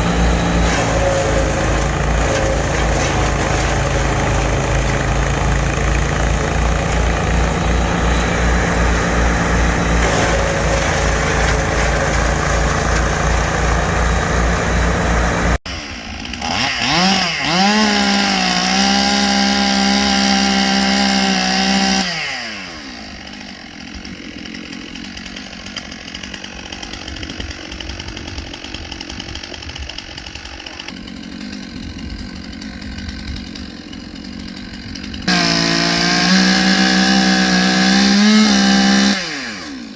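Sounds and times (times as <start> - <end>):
chainsaw idling: 0.0 - 39.9
chainsaw revving: 0.0 - 39.9.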